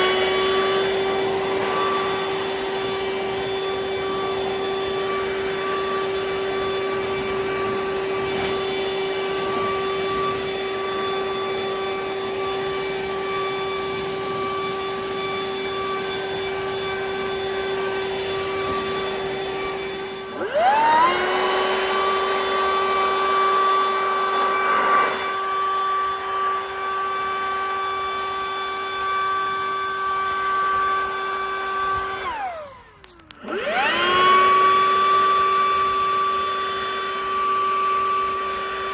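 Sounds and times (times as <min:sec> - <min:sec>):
leaf blower motor whine: 0:00.0 - 0:38.9.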